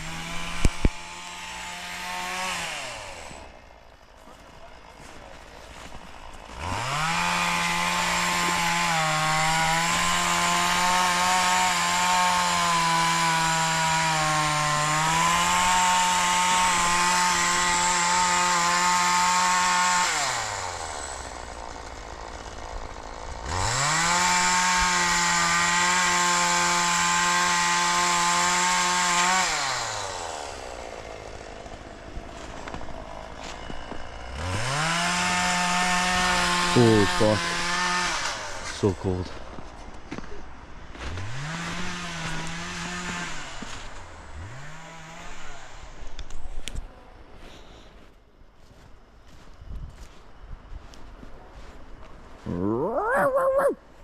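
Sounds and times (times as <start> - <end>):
chainsaw revving and idling: 0.0 - 49.4, 51.6 - 53.2.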